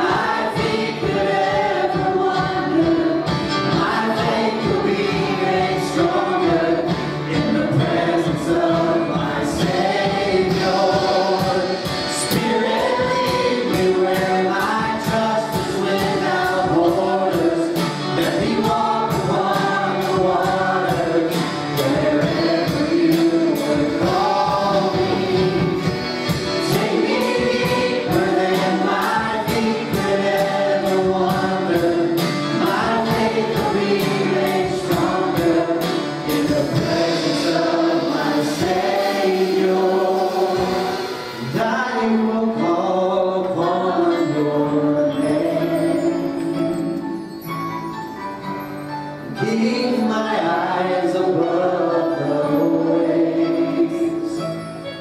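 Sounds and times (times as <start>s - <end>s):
choir singing gospel song: 0.0s - 47.1s, 49.3s - 54.6s
instrumental accompaniment: 0.0s - 55.0s.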